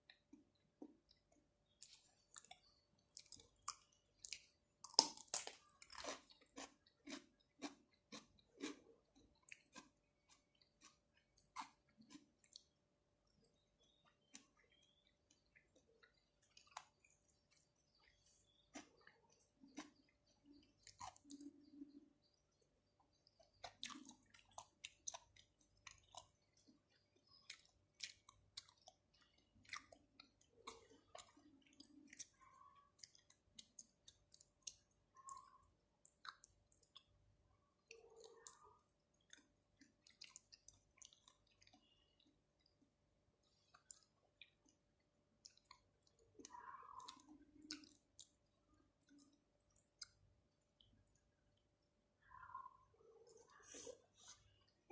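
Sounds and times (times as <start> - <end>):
wet chewing mouth sounds: 0.0 - 42.8, 43.4 - 51.2.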